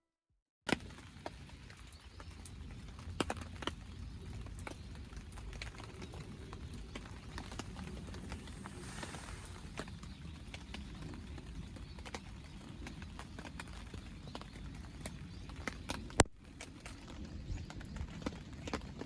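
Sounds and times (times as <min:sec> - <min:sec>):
raindrops tapping on nylon tarp: 0:00.7 - 0:19.0
steady rain patter: 0:00.7 - 0:19.0.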